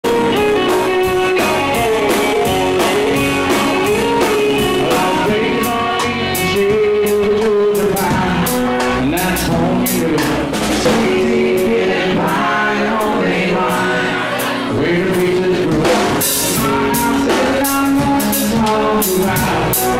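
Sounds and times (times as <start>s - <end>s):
live country band playing: 0.0s - 19.9s
man singing: 0.0s - 19.9s.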